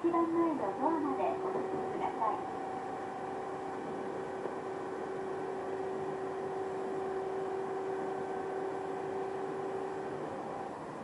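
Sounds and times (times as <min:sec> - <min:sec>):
steady whine: 0:00.0 - 0:11.0
train running rumble: 0:00.0 - 0:11.0.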